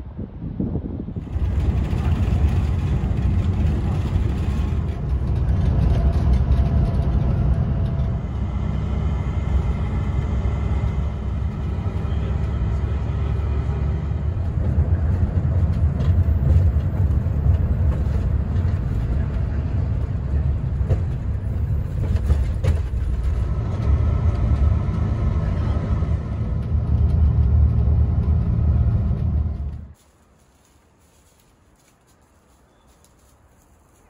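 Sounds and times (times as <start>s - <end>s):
bus engine: 0.0s - 30.0s
road noise: 0.0s - 34.0s.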